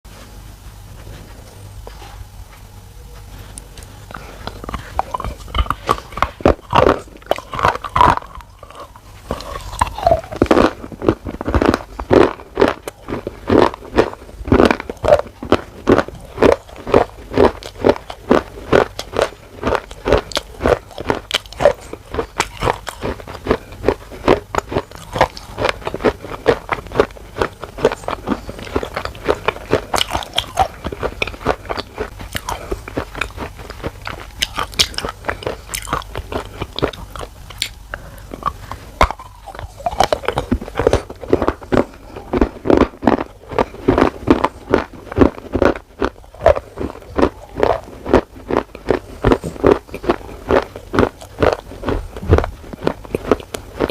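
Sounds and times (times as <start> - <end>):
crunching bites: 4.1 - 53.9.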